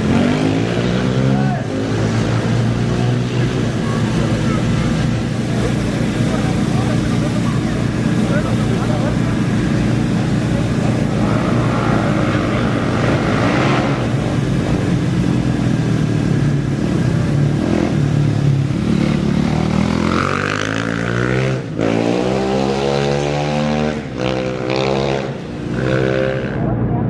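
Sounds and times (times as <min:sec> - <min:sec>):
race engines revving: 0:00.0 - 0:27.0.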